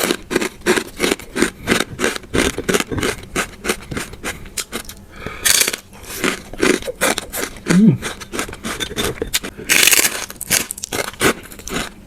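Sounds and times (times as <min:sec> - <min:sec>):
crunching fried pork skin: 0:00.0 - 0:12.0.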